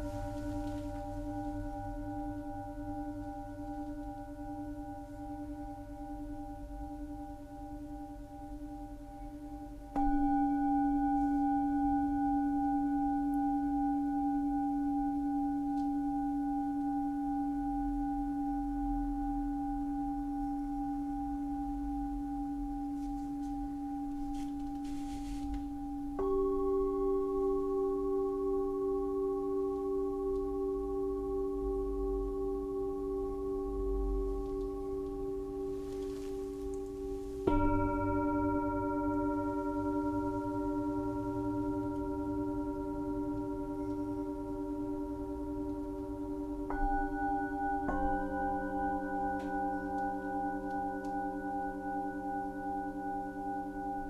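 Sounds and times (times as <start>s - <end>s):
singing bowls ringing: 0.0s - 54.0s.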